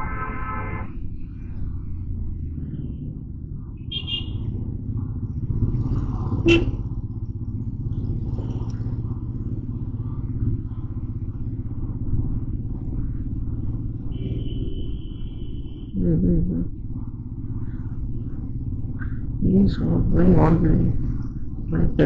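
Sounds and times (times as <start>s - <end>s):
motorcycle engine rumble: 0.0s - 22.0s
road noise: 0.0s - 22.0s.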